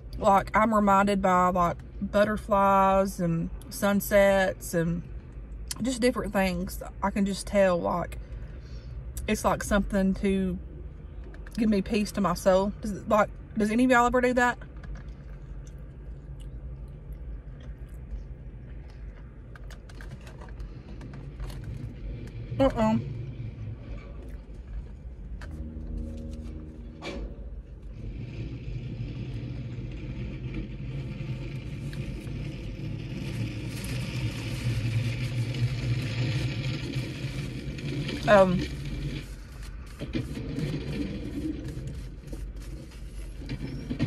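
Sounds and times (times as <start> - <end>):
car engine rumble inside cabin: 0.0 - 44.0
low hum: 0.0 - 44.0.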